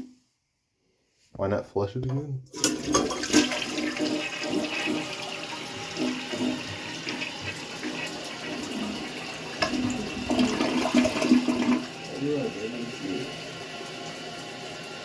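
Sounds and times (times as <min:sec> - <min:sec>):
toilet flushing: 0:02.5 - 0:15.0.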